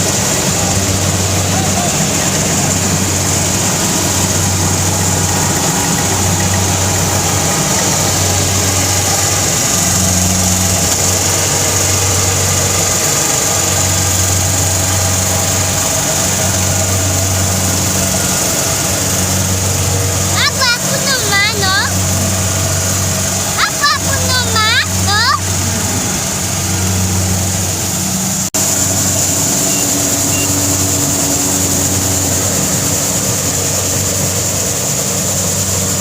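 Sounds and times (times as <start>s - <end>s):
harvester engine humming: 0.0s - 36.0s.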